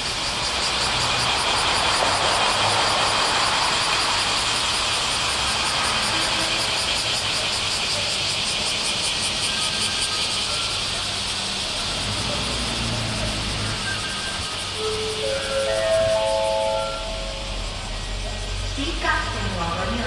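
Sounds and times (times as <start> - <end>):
high-speed train rushing: 0.0 - 20.0.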